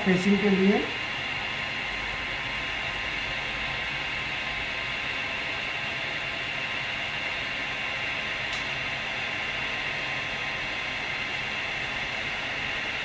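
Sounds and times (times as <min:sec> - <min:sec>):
machining spindle whirring hiss: 0:00.0 - 0:13.0.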